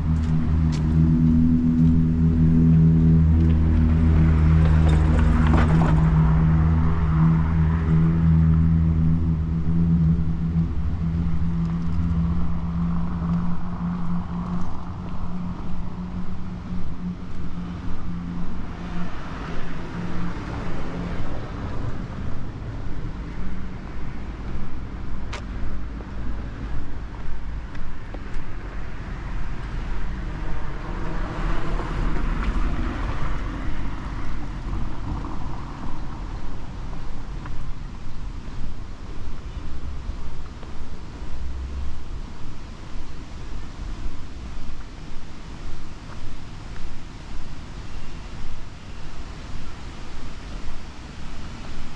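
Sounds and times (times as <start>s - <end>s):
cars passing by: 0.0s - 51.9s.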